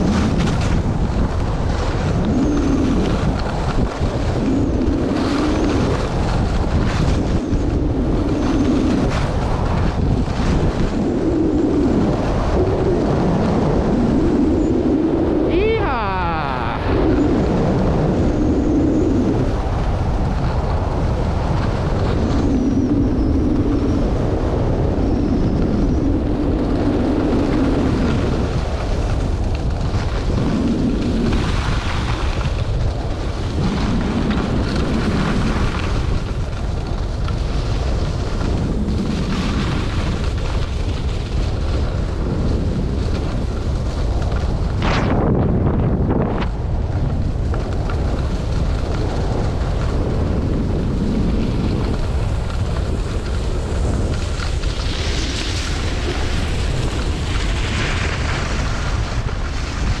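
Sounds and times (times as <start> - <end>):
skis scraping over snow: 0.0 - 15.2, 16.8 - 60.0
wind rumbling on microphone: 0.0 - 60.0.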